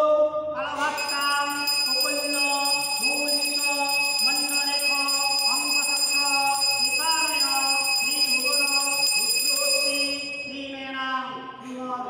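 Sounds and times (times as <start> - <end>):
person chanting: 0.0 - 12.0
hand bell ringing: 0.8 - 10.6.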